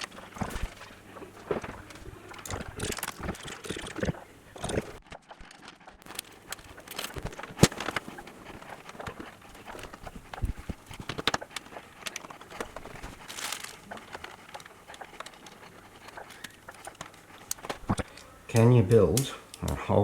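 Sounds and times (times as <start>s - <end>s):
small hard parts clicking: 0.0s - 20.0s.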